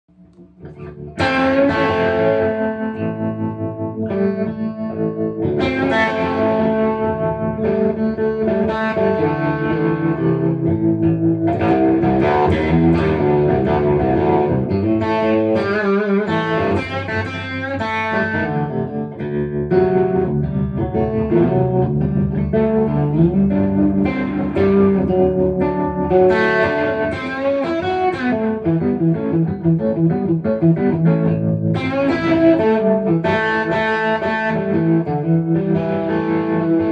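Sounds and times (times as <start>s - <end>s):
slow blues on electric guitar: 0.1s - 36.9s.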